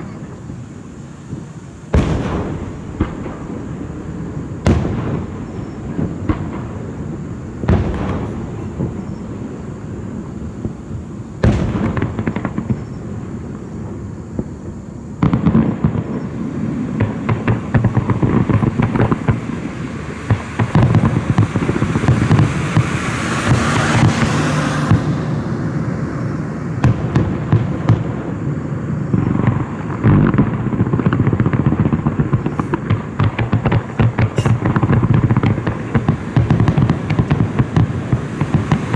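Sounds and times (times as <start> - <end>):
fireworks bang: 0.0 - 38.9
fireworks crackling: 0.0 - 38.9.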